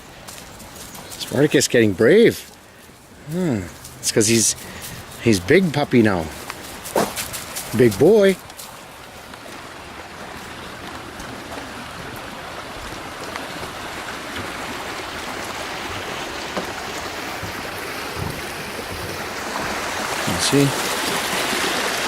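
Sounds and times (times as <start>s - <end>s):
creek water flowing: 0.0s - 22.0s.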